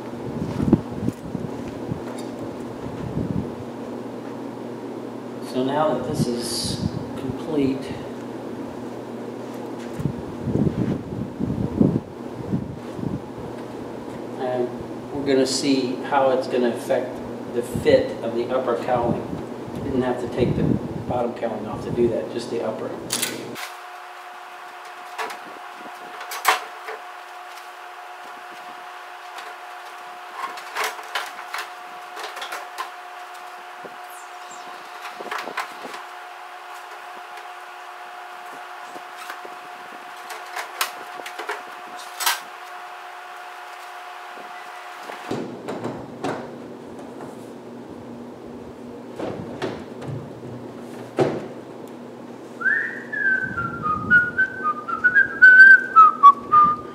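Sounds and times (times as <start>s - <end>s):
steady hum: 0.0s - 56.9s.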